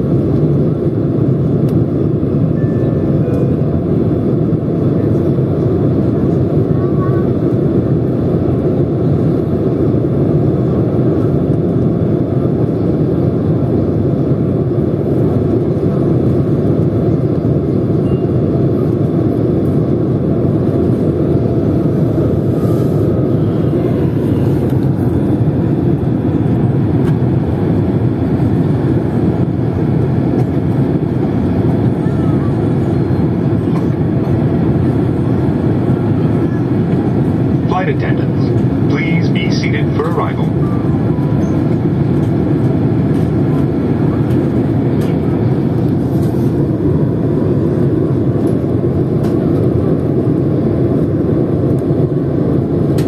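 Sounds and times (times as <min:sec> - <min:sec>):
aircraft cabin engine drone: 0:00.0 - 0:53.0.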